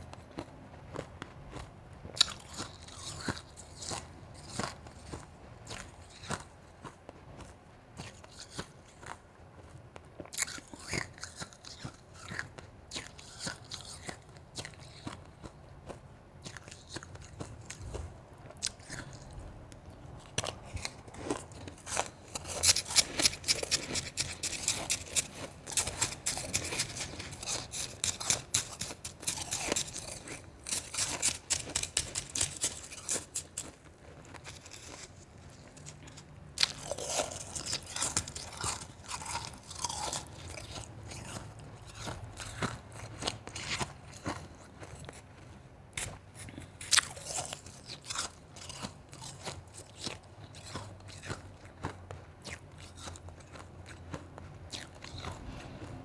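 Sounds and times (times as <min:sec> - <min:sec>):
chewing crunchy ice: 0:00.0 - 0:56.0.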